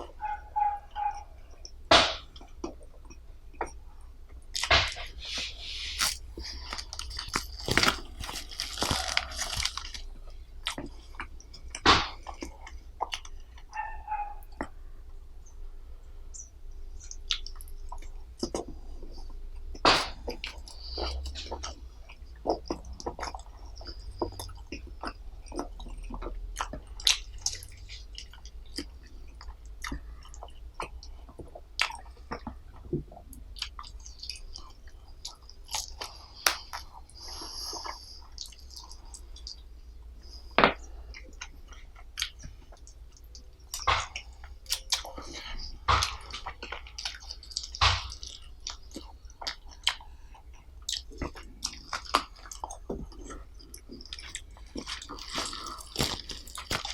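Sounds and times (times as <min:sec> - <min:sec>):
person chewing with wet smacks: 0:00.0 - 0:15.2, 0:16.3 - 0:56.9.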